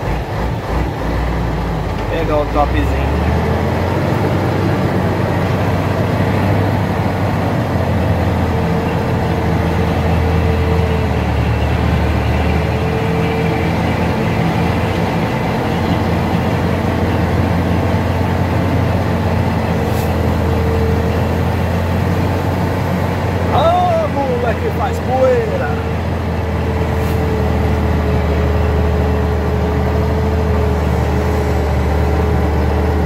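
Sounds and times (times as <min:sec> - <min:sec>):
diesel truck engine labouring: 0:00.0 - 0:33.0.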